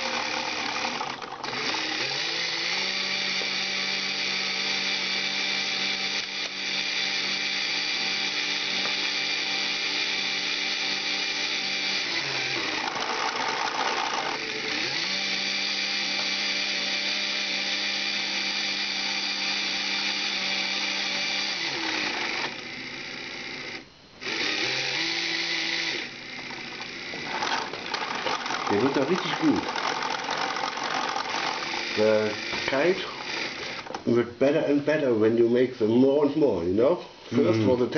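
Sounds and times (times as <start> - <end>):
electric motors and gears whining: 0.0 - 35.1.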